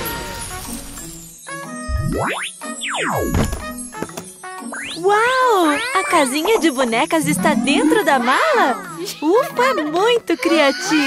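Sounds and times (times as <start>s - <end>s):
cartoon background music: 0.0s - 11.0s.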